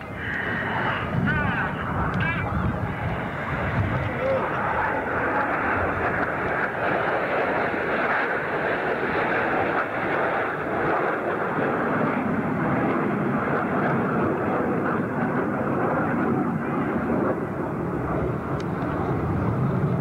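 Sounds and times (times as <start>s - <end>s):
jet aircraft flying over: 0.0s - 20.0s.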